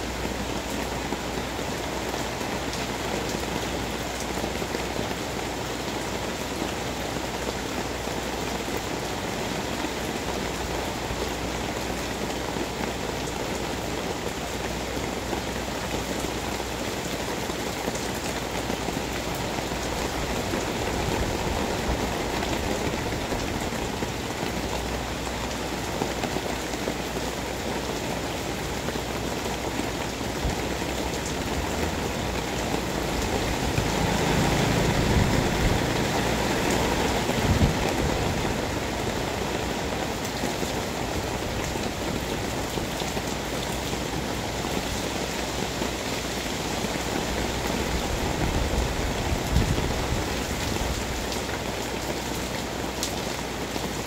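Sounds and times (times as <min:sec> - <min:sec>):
rain hissing on concrete: 0:00.0 - 0:54.0.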